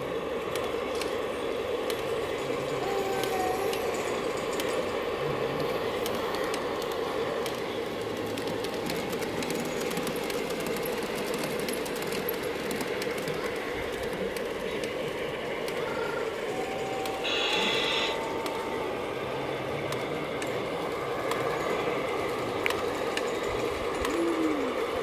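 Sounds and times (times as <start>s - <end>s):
model train motor hum: 0.0s - 25.0s
wheels clicking on rails: 0.0s - 25.0s.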